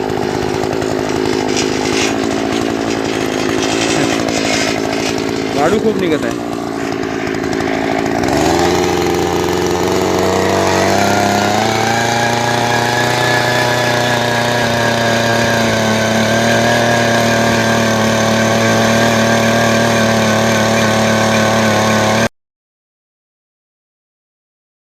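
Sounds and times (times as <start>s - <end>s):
two-stroke engine running fast: 0.0s - 22.3s.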